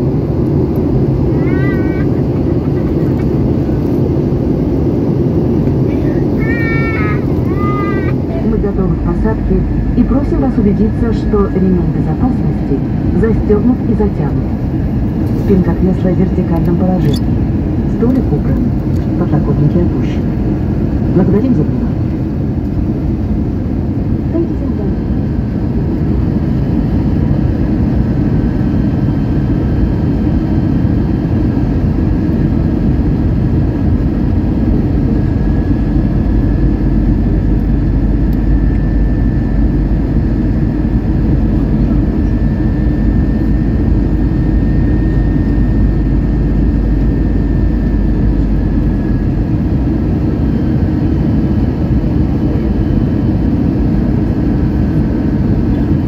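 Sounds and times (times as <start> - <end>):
airliner engines rumbling: 0.0 - 56.0
faint engine whine: 0.0 - 56.0.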